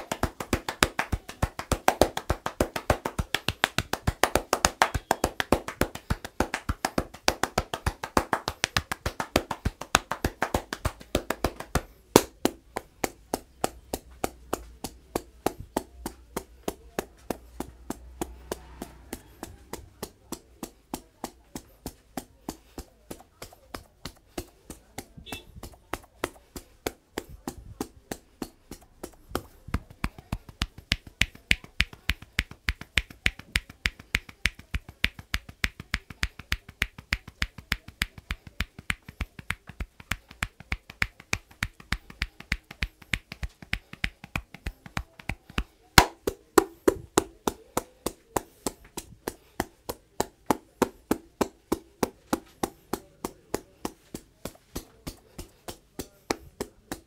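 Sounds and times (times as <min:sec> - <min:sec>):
hollow hand claps on head: 0:00.0 - 0:57.0.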